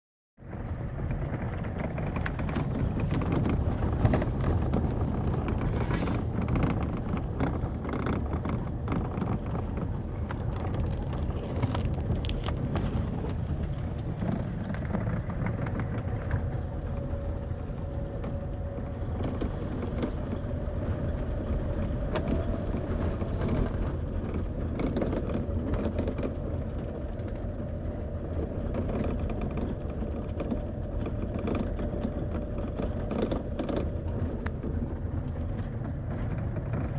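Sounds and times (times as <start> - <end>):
vehicle noise: 0.4 - 36.9.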